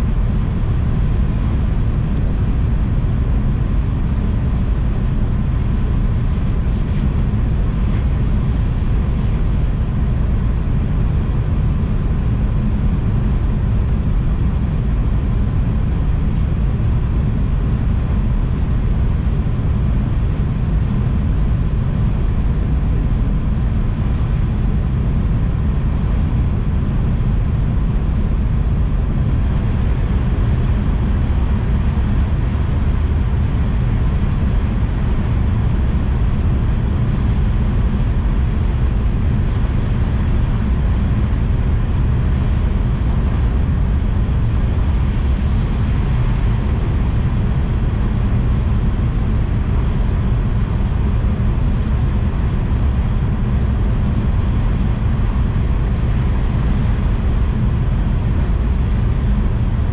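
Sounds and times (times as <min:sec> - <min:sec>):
train running noise inside cabin: 0:00.0 - 0:59.9.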